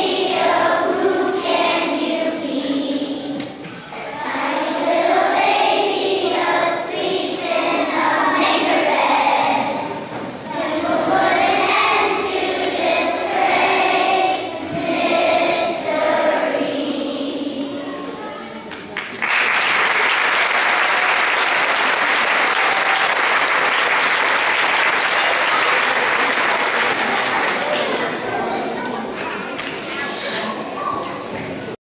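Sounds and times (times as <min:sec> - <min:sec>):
children's choir singing: 0:00.0 - 0:18.7, 0:19.8 - 0:31.8.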